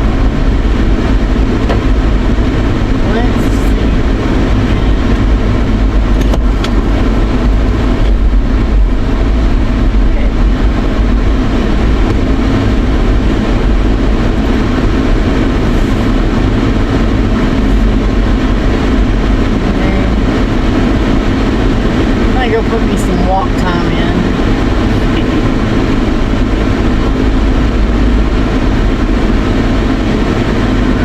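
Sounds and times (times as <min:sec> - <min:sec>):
truck cab road and engine noise: 0:00.0 - 0:31.0.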